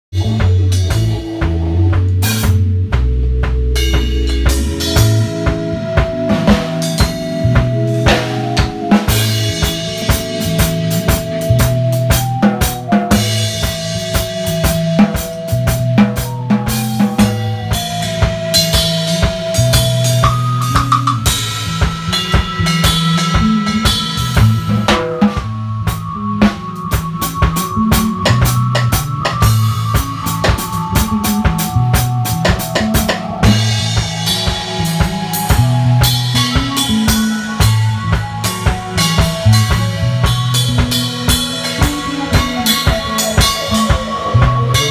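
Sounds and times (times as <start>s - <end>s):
bass line: 0.0s - 44.9s
drum kit beat: 0.0s - 44.9s
held melody notes: 0.1s - 44.9s.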